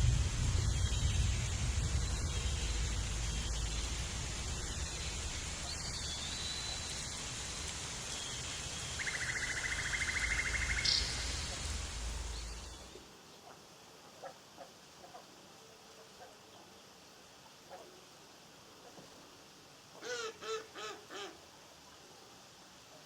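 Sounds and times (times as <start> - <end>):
outdoor hiss with low rumble: 0.0 - 23.0.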